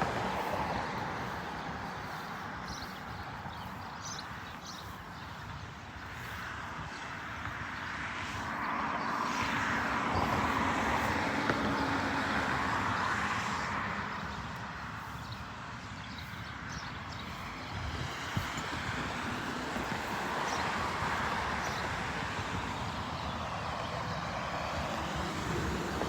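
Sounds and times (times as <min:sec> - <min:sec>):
steady low traffic rumble: 0:00.0 - 0:26.0
vehicle passing: 0:00.0 - 0:26.0.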